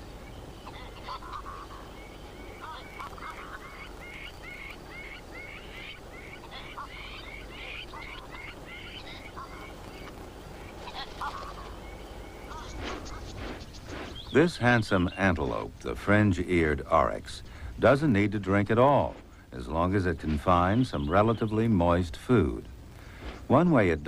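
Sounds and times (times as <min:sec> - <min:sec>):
birds calling: 0:00.0 - 0:24.0
steady low hum: 0:00.0 - 0:24.0.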